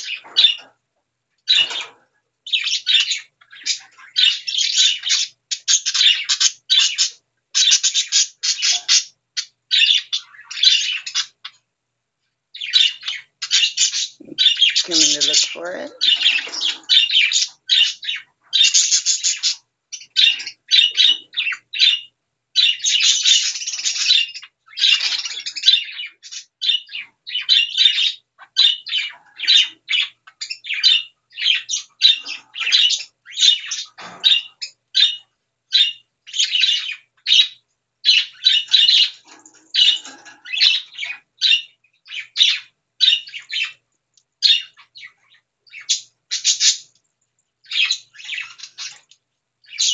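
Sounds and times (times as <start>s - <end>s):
baby birds chirping: 0.0s - 0.8s, 1.4s - 11.7s, 12.5s - 47.0s, 47.6s - 49.9s.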